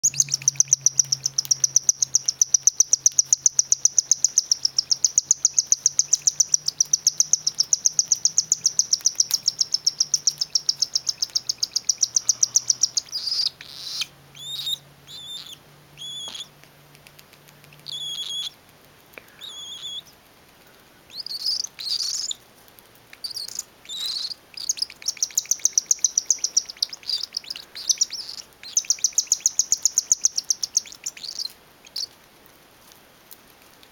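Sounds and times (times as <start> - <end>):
baby cockatiel begging calls: 0.2 - 16.5, 17.9 - 18.6, 19.4 - 20.1, 21.1 - 22.4, 23.2 - 32.1.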